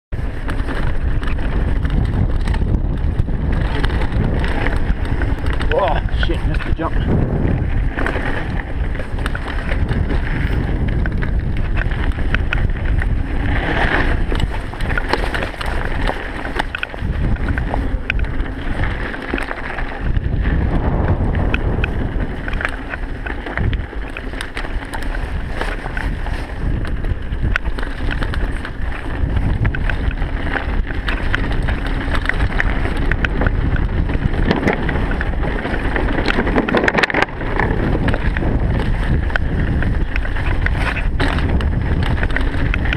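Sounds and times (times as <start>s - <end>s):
bike rattling and clicking: 0.1s - 42.9s
wind buffeting microphone: 0.1s - 42.9s
tyres rumbling over gravel: 0.2s - 42.9s.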